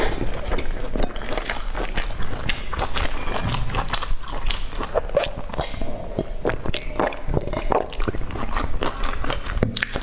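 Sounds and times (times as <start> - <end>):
mouth clicks and smacks: 0.0 - 10.0
person chewing food: 0.0 - 10.0.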